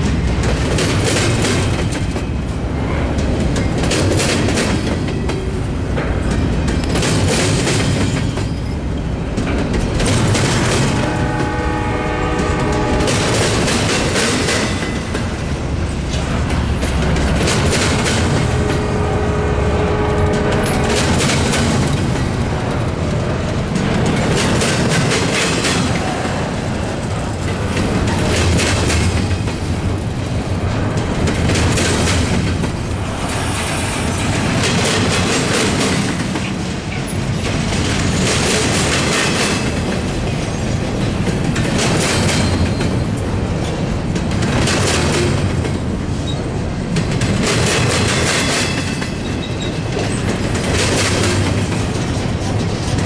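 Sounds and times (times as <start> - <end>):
train wheels clattering over rails: 0.0 - 53.0.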